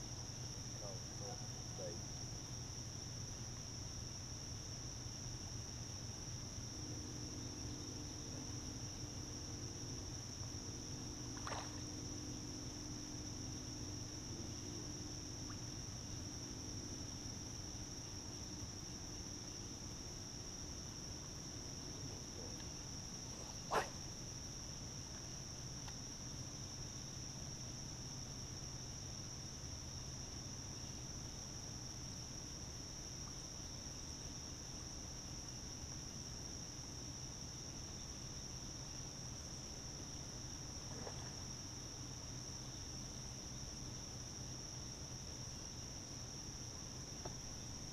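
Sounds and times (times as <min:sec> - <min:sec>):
crickets chirping: 0:00.0 - 0:47.9
faint low hum: 0:00.0 - 0:47.9.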